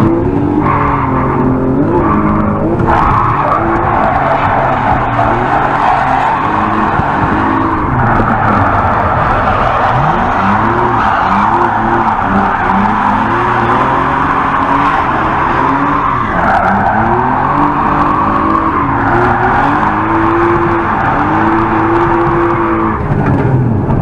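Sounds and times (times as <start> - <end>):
car engine revving: 0.0 - 24.0
tyres skidding: 0.0 - 24.0.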